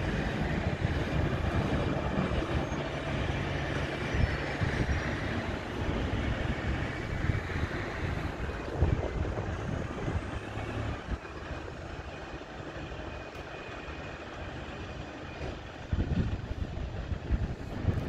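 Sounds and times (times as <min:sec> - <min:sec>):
heavy road vehicle running: 0:00.0 - 0:18.0
wind buffeting microphone: 0:00.0 - 0:18.0.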